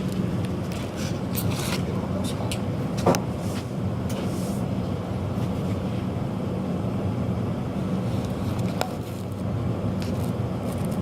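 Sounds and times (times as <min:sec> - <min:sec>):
gas burner flame rumbling: 0:00.0 - 0:11.0.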